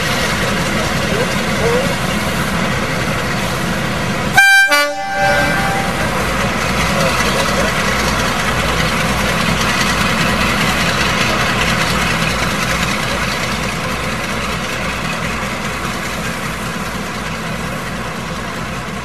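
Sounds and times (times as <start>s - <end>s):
diesel locomotive engine idling: 0.0s - 19.0s.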